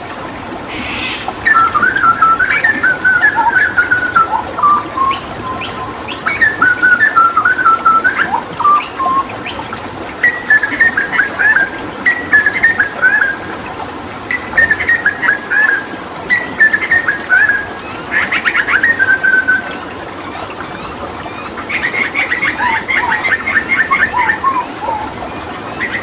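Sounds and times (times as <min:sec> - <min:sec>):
flowing water hiss: 0:00.0 - 0:26.0
bird singing whistled notes: 0:00.7 - 0:13.5, 0:14.3 - 0:25.1, 0:25.7 - 0:26.0.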